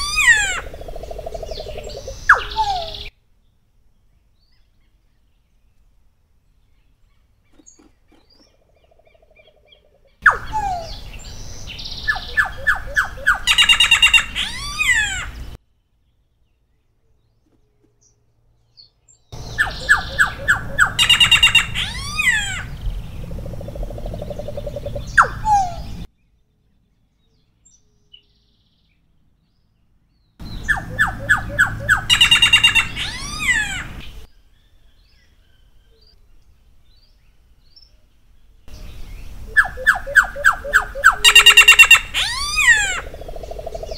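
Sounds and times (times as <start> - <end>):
bird singing: 0.0 - 43.9.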